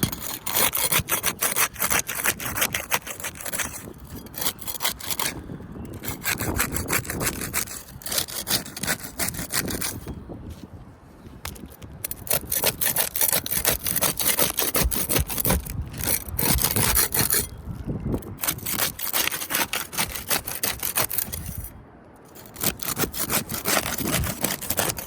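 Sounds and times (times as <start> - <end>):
tool scraping under roof shingles: 0.0 - 10.8, 11.4 - 17.5, 18.3 - 25.0.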